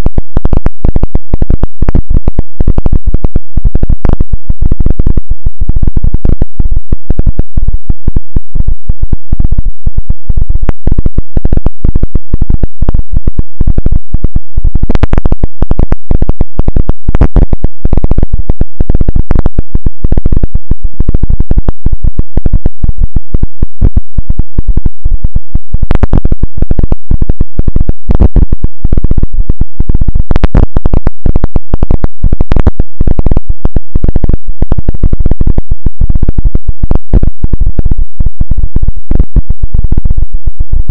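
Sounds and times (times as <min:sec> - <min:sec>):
harsh crackling noise: 0:00.0 - 0:40.9.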